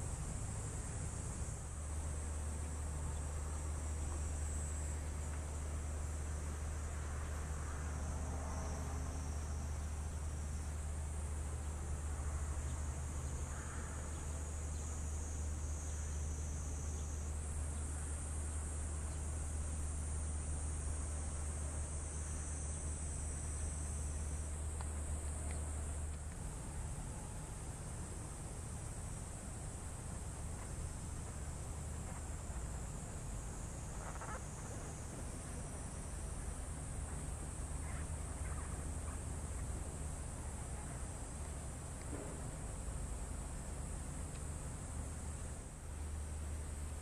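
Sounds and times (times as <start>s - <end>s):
insects chorus: 0.0s - 47.0s.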